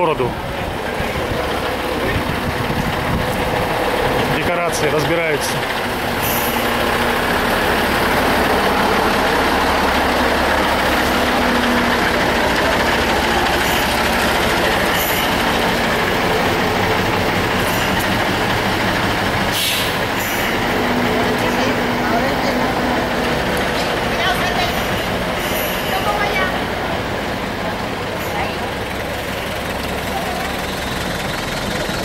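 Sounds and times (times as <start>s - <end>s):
large engine rumbling: 0.0s - 32.0s.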